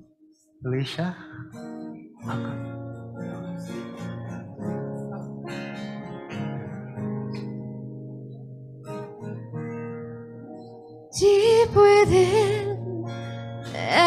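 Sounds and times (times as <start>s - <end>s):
acoustic guitar chords ringing: 0.0s - 14.0s.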